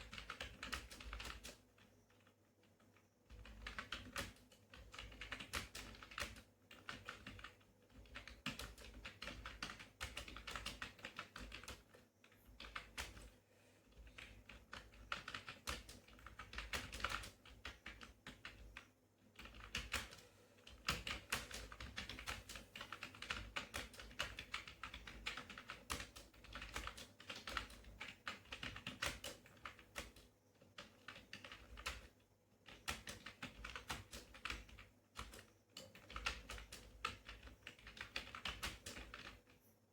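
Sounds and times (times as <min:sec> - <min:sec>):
keyboard typing: 0:00.0 - 0:39.6.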